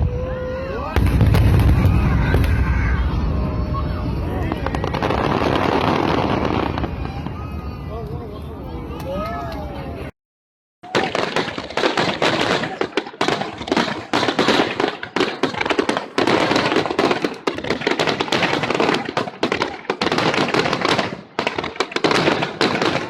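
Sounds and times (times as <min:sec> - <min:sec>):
fireworks bangs and crackles: 0:00.0 - 0:08.0, 0:10.8 - 0:23.0.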